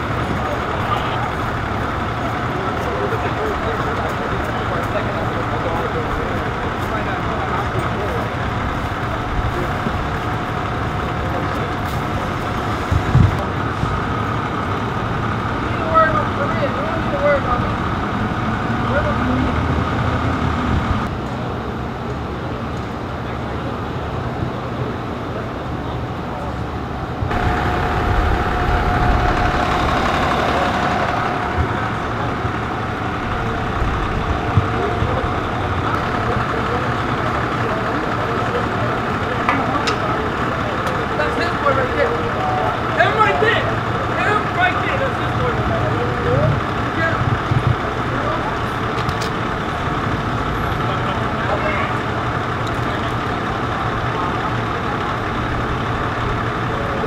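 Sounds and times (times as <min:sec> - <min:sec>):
idling engines and traffic: 0:00.0 - 0:57.0.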